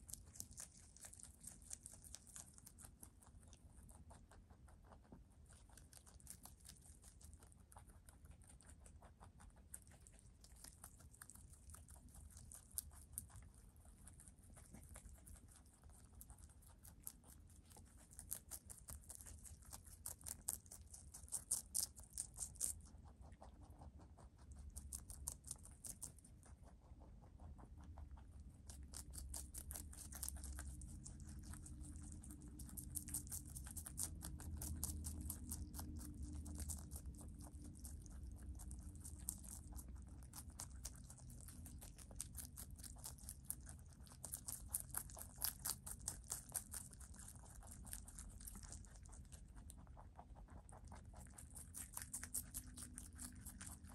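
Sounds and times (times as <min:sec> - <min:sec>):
rabbits crunching lettuce: 0:00.0 - 0:53.9.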